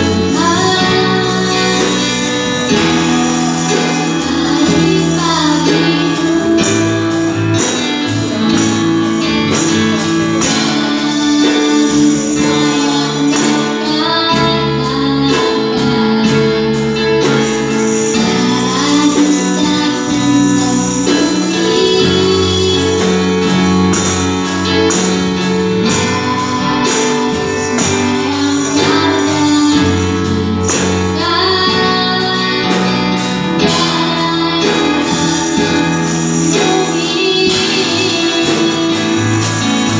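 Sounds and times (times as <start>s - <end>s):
song with singing voice: 0.0s - 39.9s.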